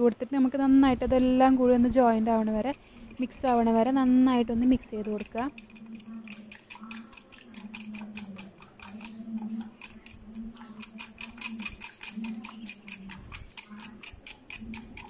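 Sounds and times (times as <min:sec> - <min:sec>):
whisk clicking against glass bowl: 0:02.2 - 0:15.0.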